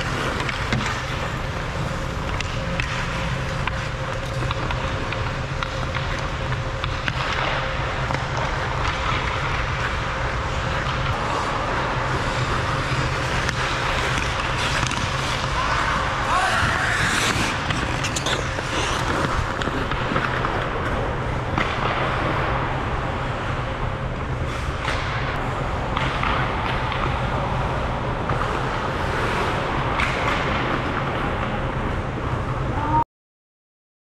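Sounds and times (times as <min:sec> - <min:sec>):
hockey sticks and puck clacking: 0:00.0 - 0:23.5, 0:24.2 - 0:32.1
skates scraping ice: 0:00.0 - 0:32.6
steady low hum: 0:00.0 - 0:33.0.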